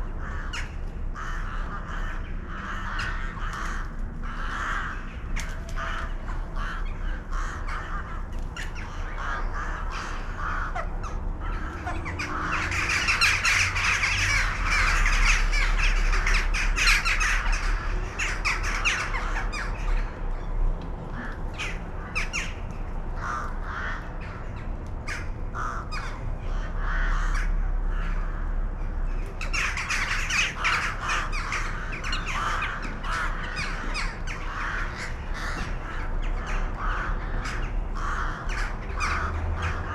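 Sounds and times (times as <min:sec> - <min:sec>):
low steady rumble: 0:00.0 - 0:39.9
crows cawing: 0:00.1 - 0:20.1, 0:21.1 - 0:22.6, 0:23.2 - 0:28.8, 0:29.4 - 0:39.9.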